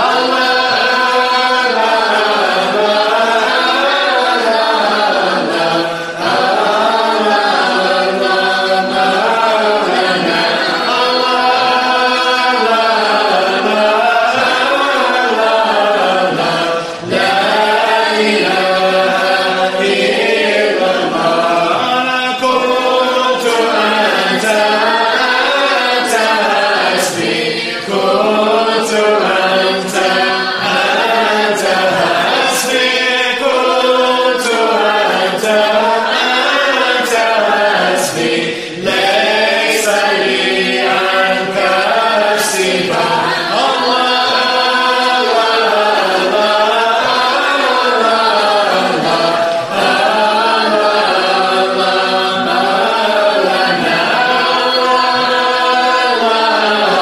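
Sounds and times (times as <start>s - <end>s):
group chanting in unison: 0.0s - 57.0s.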